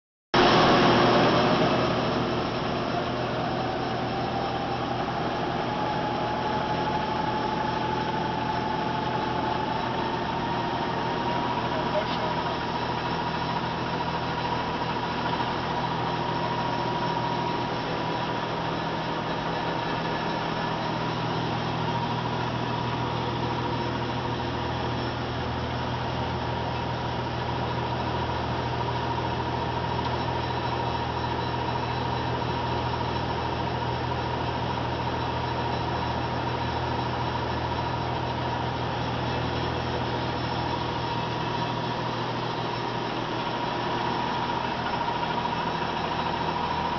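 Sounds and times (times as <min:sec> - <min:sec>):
machine running with high whine: 0:00.4 - 0:46.9.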